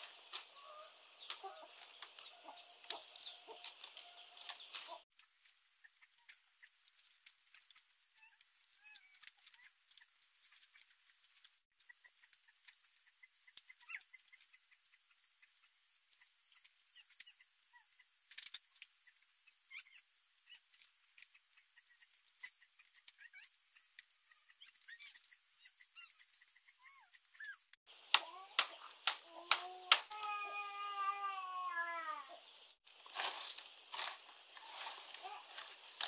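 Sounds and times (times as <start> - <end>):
faint chirping: 0.0 - 5.1, 11.8 - 36.0
bamboo strips clacking: 0.0 - 19.4, 20.4 - 30.9, 32.8 - 36.0
bamboo strips ticking: 0.0 - 30.9, 32.8 - 36.0.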